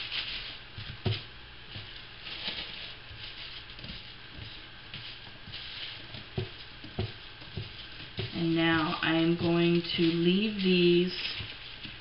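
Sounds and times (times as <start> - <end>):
gloved hand squishing clay: 0.0 - 12.0.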